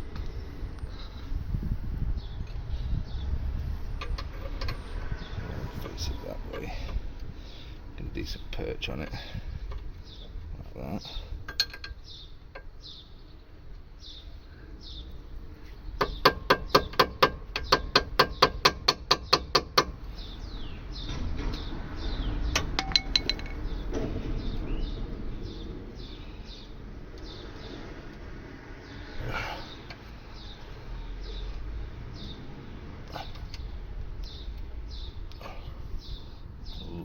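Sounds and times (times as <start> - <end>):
bird chirping: 2.2 - 28.0, 28.7 - 37.0.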